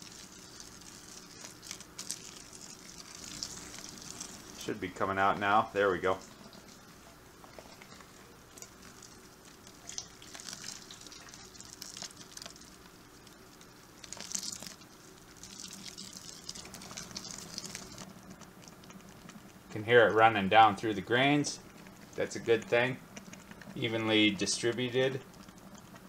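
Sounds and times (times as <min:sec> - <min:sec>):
water trickling through grain: 0:00.0 - 0:26.0.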